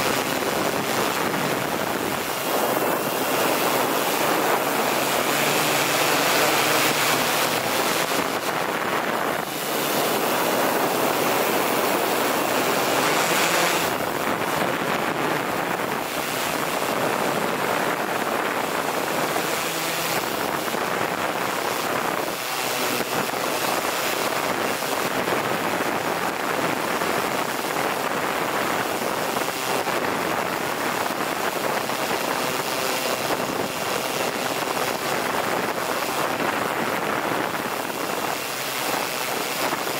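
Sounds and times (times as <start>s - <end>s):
drone rotor wash: 0.0s - 39.9s
wind buffeting microphone: 0.0s - 39.9s.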